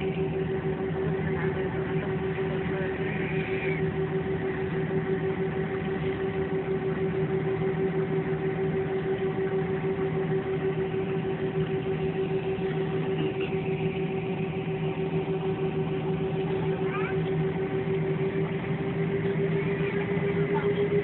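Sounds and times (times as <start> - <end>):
jet engines in cabin: 0.0 - 21.0.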